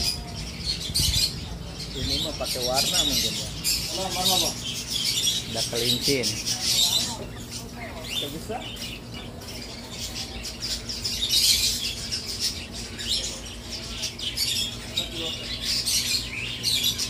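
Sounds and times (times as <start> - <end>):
small birds chirping and squawking: 0.0 - 17.0.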